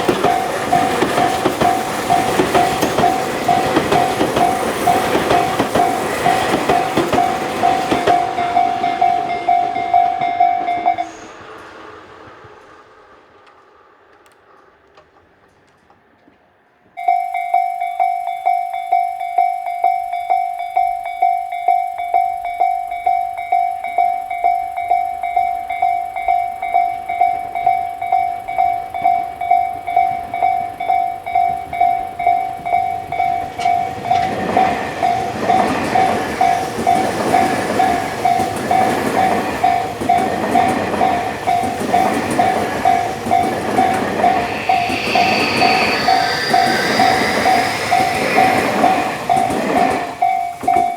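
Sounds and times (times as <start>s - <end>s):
level crossing alarm bell: 0.0s - 11.3s, 17.0s - 50.9s
train wheels rumbling: 0.0s - 50.9s.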